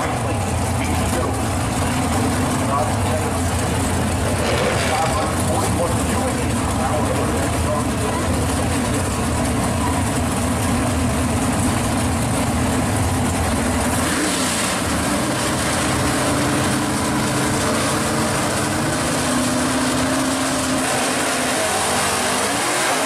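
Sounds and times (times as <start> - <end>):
car engines idling loudly: 0.0 - 23.0.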